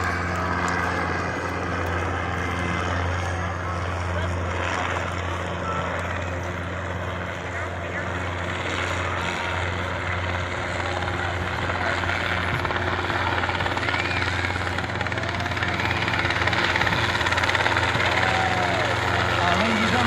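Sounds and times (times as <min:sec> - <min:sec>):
helicopter rotor and engine drone: 0:00.0 - 0:20.0.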